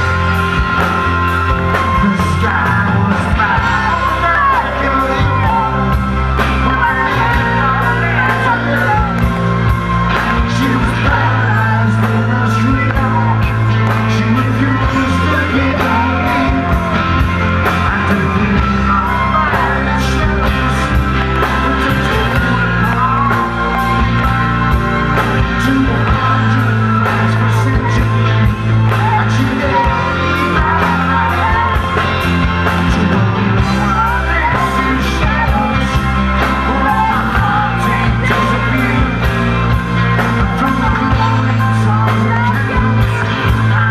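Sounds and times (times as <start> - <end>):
live rock band playing: 0.0 - 43.9
person singing: 0.0 - 43.9.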